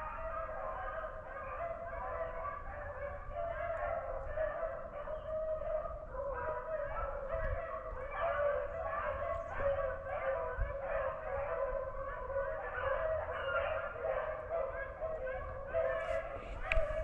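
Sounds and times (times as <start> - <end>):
dogs baying: 0.0 - 17.0.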